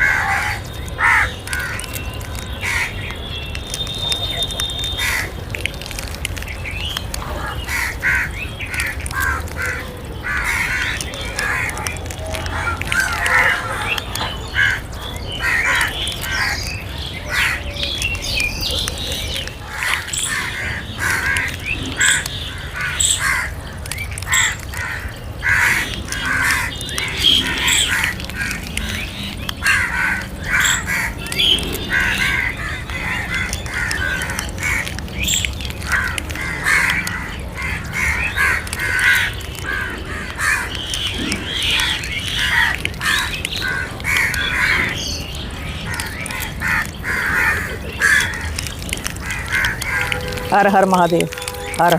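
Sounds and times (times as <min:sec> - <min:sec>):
crows cawing: 0:00.0 - 0:03.1, 0:04.9 - 0:06.1, 0:07.2 - 0:18.0, 0:18.6 - 0:51.9.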